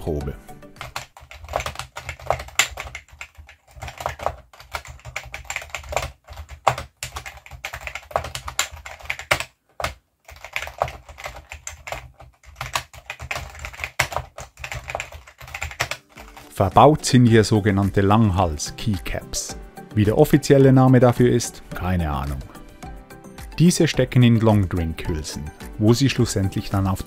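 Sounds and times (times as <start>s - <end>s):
keyboard typing: 0.0s - 27.0s.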